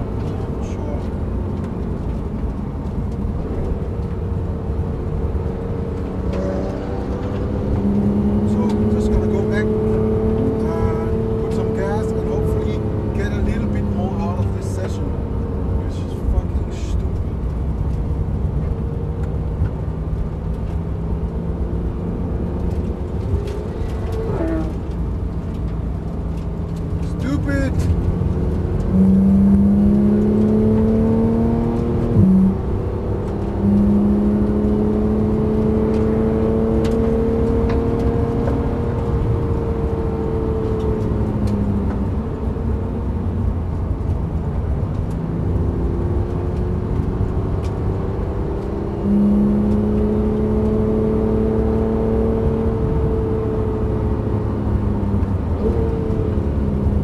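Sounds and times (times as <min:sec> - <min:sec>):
wind and tyre noise in car: 0:00.0 - 0:57.0.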